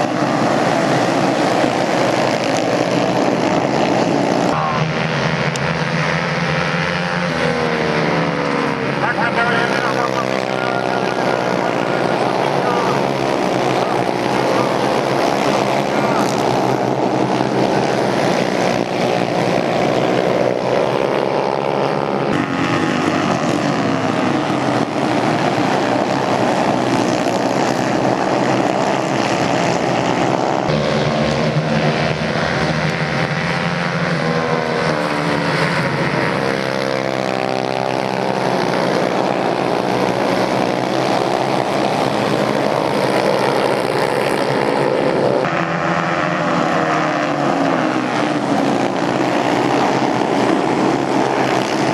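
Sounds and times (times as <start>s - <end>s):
racing motorcycle engines revving: 0.0s - 51.9s.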